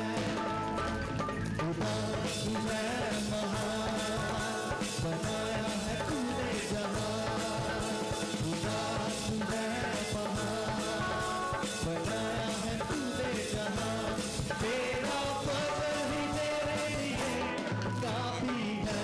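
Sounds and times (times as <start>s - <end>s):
person singing: 0.0s - 0.9s, 1.6s - 19.0s
barrel drum beat: 0.0s - 19.0s.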